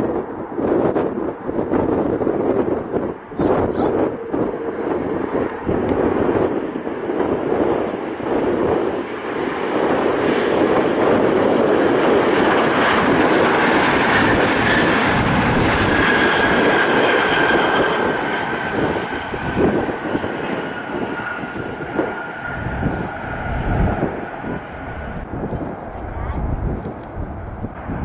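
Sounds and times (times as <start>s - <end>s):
jet engine roar: 0.0s - 28.0s
jet engine whine: 0.0s - 28.0s.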